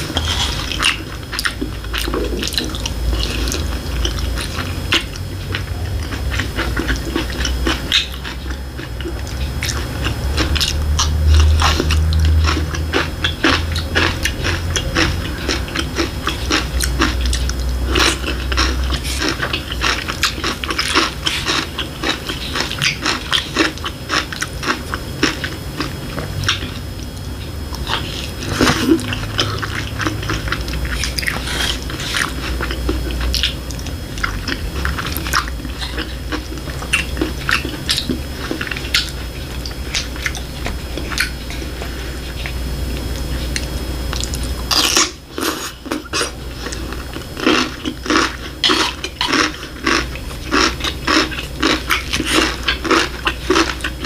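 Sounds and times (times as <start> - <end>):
close chewing with clicks: 0.0 - 54.0.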